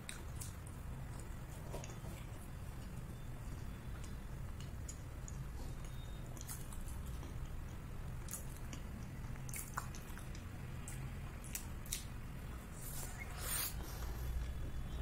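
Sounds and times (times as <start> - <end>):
person chewing with mouth clicks: 0.0 - 12.2.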